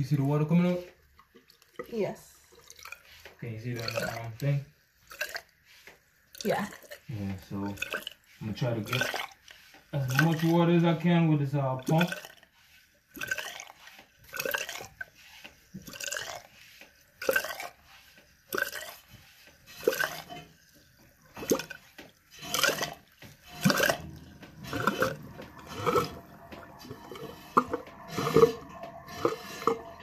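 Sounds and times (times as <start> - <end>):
hand pump drawing water: 0.0 - 30.0.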